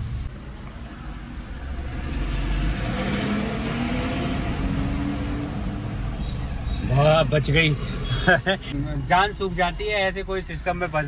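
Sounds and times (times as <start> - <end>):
bus passing close: 0.0 - 9.2.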